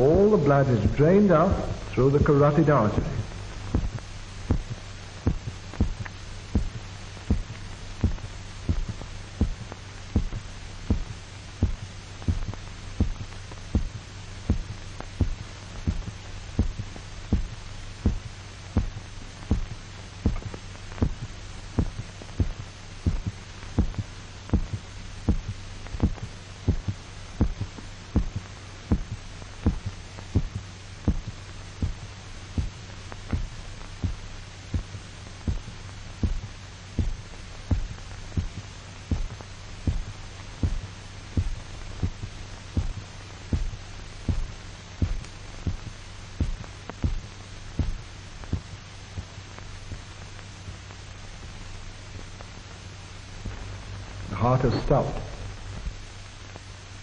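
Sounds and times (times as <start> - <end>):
amplified heartbeat thumps: 0.0 - 50.1, 53.3 - 56.7
steady low hum: 0.0 - 57.0.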